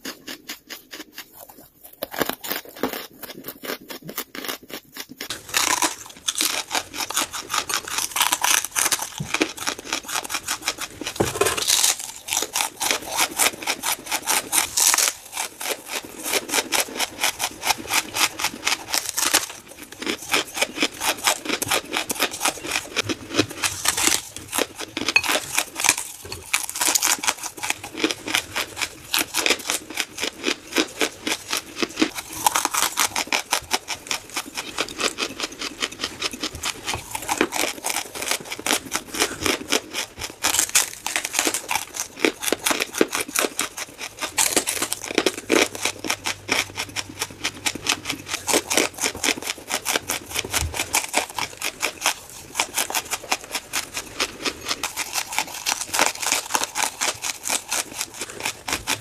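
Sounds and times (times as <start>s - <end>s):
charcoal crunching when chewed: 0.0s - 59.0s.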